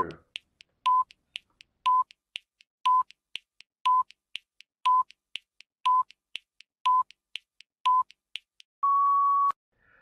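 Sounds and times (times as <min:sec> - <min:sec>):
quiet timer ticks: 0:00.0 - 0:08.7.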